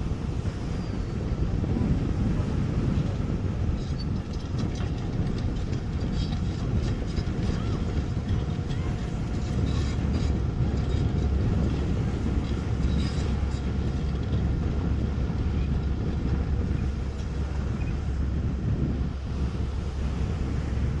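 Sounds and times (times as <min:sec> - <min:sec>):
excavator diesel engine rumbling: 0:00.2 - 0:21.0.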